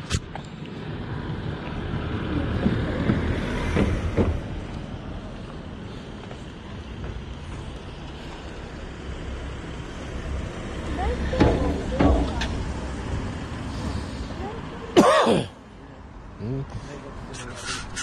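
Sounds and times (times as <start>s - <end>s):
car passing: 0.4s - 15.0s.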